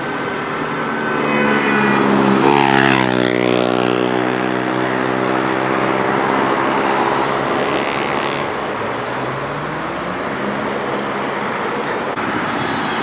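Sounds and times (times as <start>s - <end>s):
motorcycle passing at speed: 0.0s - 13.0s.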